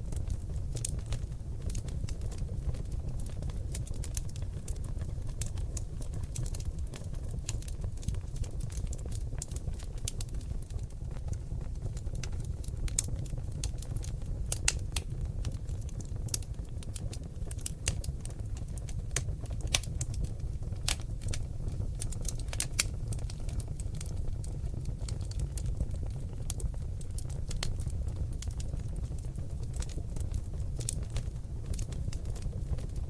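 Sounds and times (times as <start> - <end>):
logs crackling in fireplace: 0.0 - 33.0.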